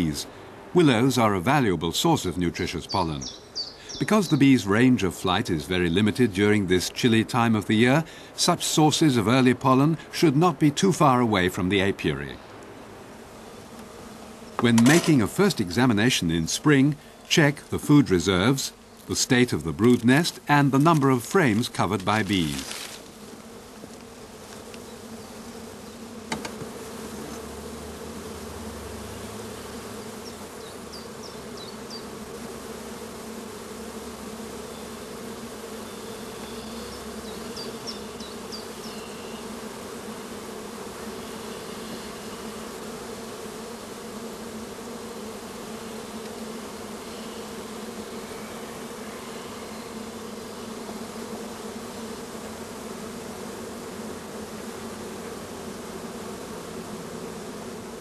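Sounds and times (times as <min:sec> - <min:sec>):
bees humming: 0:00.0 - 0:58.0.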